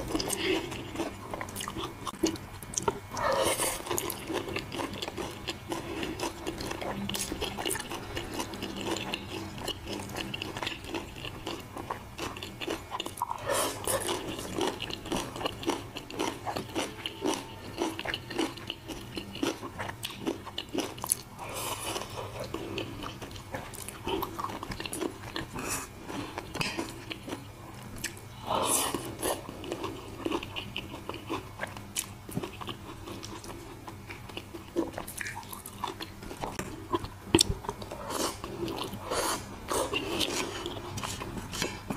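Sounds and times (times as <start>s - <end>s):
chewing and crunching food: 0.0s - 41.9s.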